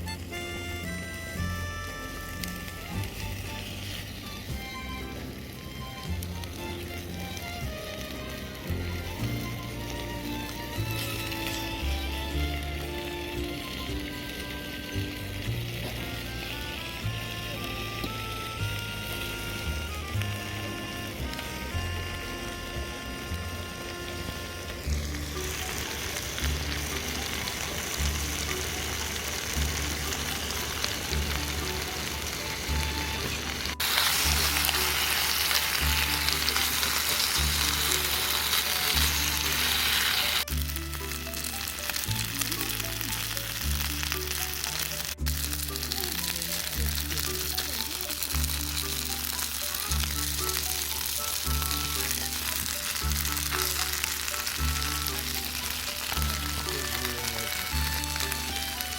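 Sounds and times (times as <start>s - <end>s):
food sizzling in a hot pan: 0.0s - 58.9s.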